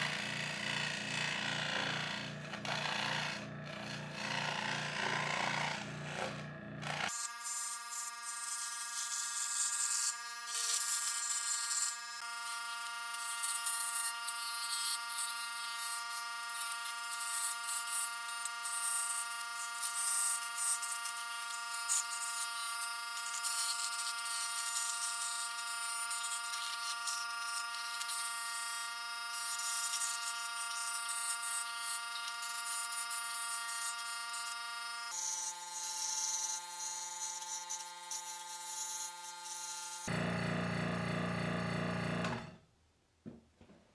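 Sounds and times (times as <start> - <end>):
scroll saw cutting wood: 0.0 - 42.6.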